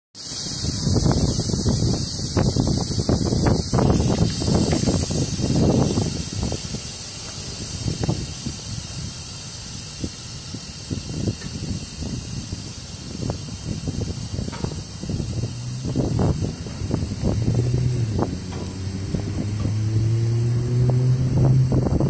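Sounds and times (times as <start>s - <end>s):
compressed air hissing: 0.2s - 22.0s
wind buffeting microphone: 0.2s - 22.0s.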